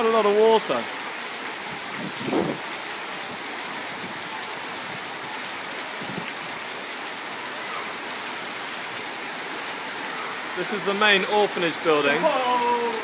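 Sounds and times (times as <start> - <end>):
heavy rain: 0.0 - 13.0
running water: 0.0 - 13.0.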